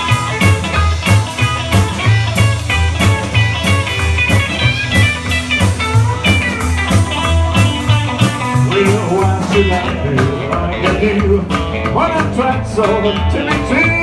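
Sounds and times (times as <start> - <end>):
blues band playing: 0.0 - 14.0
guitar: 0.0 - 14.0.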